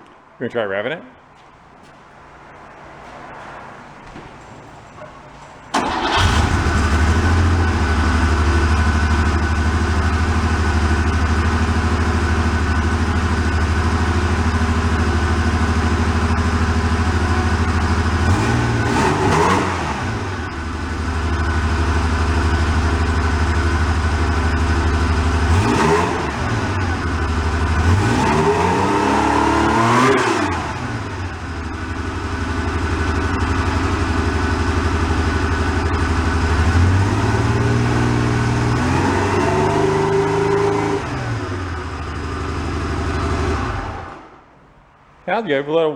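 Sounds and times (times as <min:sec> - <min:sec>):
car engine starting and revving: 0:05.7 - 0:44.6.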